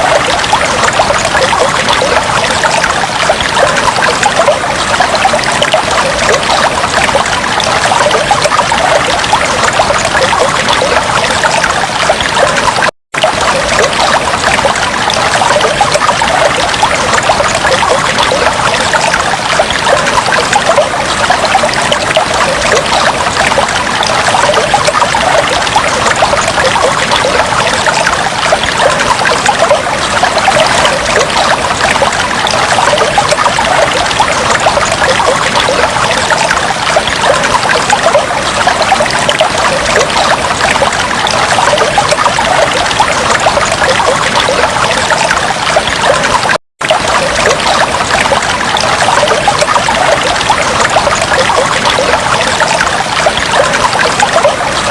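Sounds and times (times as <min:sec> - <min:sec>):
aquarium water bubbling: 0:00.0 - 0:54.9.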